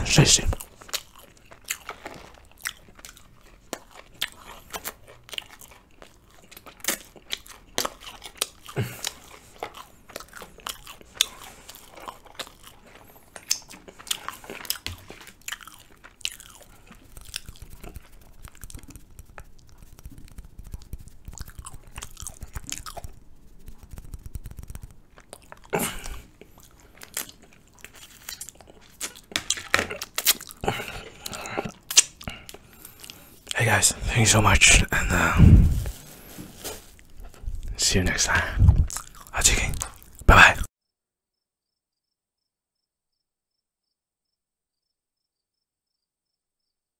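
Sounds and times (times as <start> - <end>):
person chewing bread: 0.4 - 40.7.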